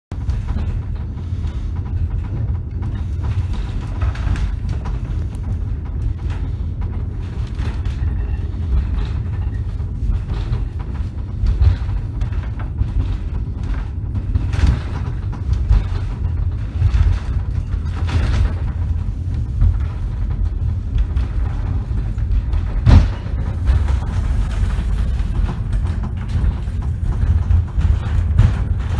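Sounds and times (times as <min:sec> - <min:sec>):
funicular car rumbling on rails: 0:00.1 - 0:28.9
wheels knocking on track: 0:00.2 - 0:28.9.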